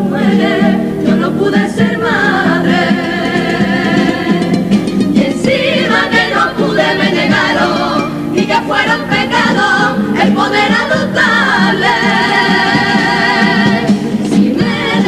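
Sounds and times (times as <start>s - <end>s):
guitars playing: 0.0s - 15.0s
mixed choir singing in parts: 0.0s - 15.0s.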